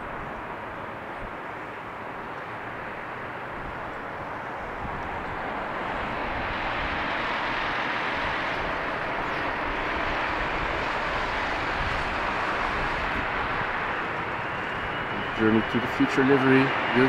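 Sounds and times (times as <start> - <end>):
jet airliner rushing noise: 0.0 - 17.0.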